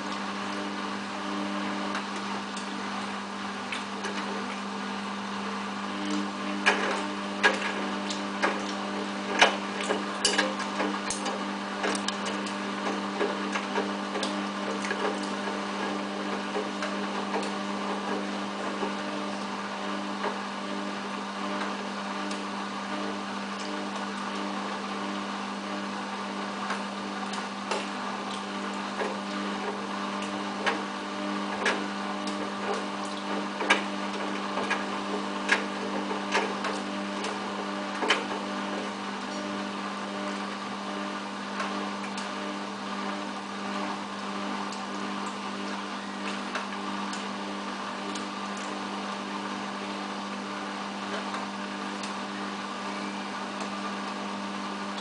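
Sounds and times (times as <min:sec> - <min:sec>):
washing machine motor humming: 0:00.0 - 0:55.0.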